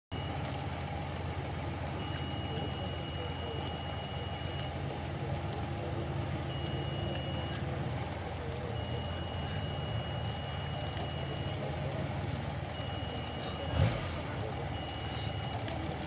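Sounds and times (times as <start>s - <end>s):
low engine hum: 0.1s - 16.0s.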